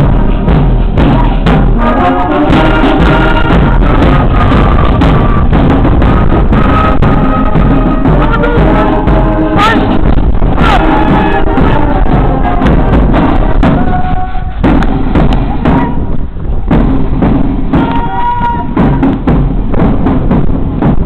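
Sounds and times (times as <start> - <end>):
marching music with drumbeat: 0.0 - 21.0.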